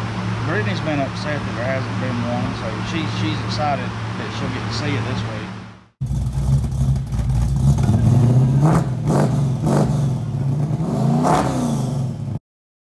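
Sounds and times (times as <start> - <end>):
car engine revving: 0.3 - 12.4.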